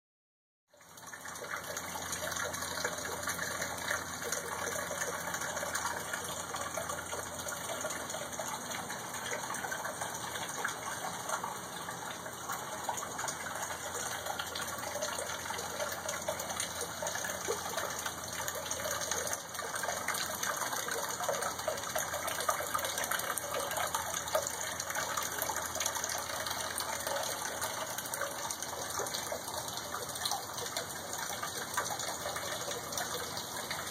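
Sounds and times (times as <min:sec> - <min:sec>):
water splashing from drain: 0:00.7 - 0:33.9.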